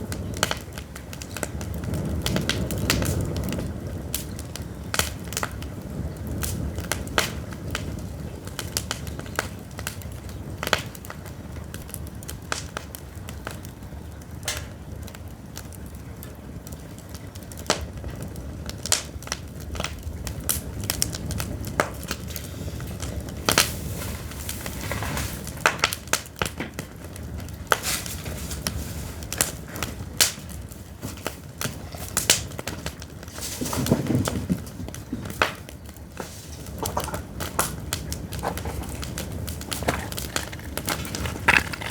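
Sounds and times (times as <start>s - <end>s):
firewood crackling and popping: 0.0s - 41.9s
low rumble of flame: 0.0s - 41.9s.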